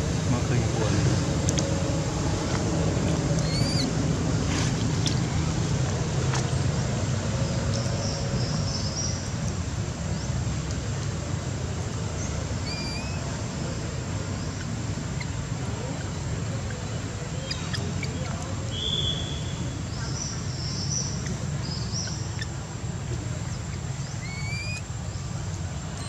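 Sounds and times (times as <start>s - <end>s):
low outdoor rumble: 0.0s - 26.0s.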